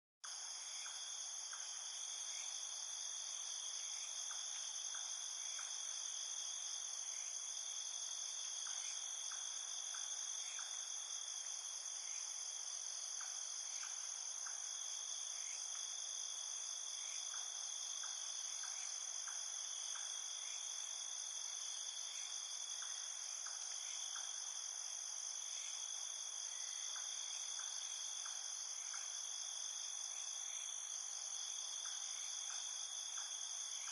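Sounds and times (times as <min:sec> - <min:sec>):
high-pitched insect chorus: 0:00.2 - 0:33.9.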